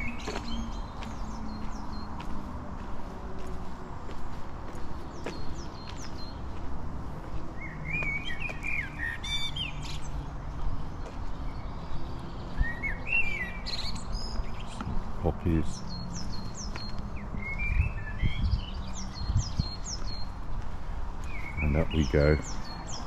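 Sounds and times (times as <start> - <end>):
songbirds warbling: 0.0 - 23.0.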